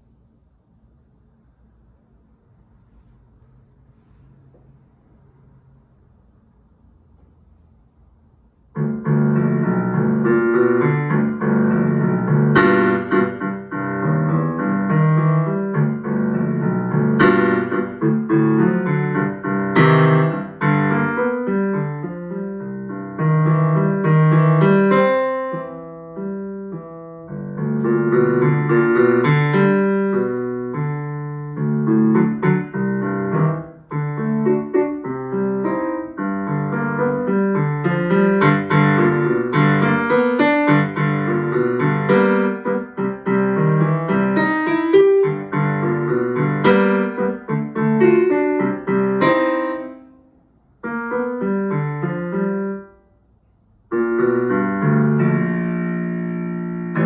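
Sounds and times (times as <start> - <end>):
boogie piano piece: 8.7 - 53.0, 53.8 - 57.0.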